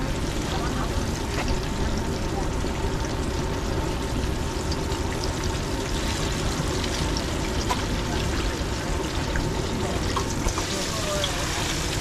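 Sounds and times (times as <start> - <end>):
fish frying in grease: 0.0 - 12.0.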